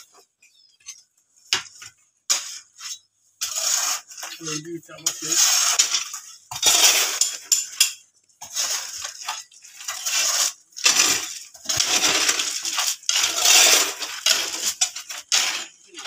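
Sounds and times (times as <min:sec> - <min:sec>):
stones clinking on metal: 0:00.4 - 0:16.0
spades scraping stone chips: 0:02.3 - 0:16.0.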